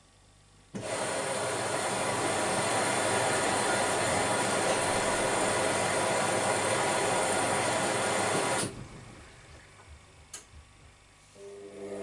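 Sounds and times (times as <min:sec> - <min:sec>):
water filling washing machine: 0:00.8 - 0:10.2, 0:11.4 - 0:12.0.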